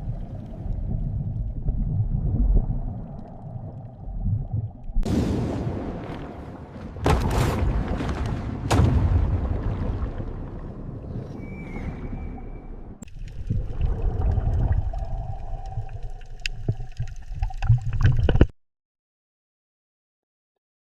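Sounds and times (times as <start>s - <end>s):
underwater rumbling gurgle: 0.0s - 18.5s.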